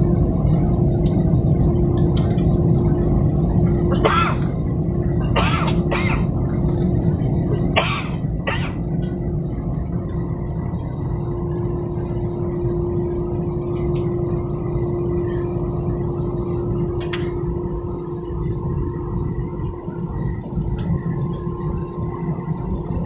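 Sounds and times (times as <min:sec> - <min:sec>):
airliner cabin rumble: 0:00.0 - 0:23.0
steady hum: 0:00.0 - 0:23.0.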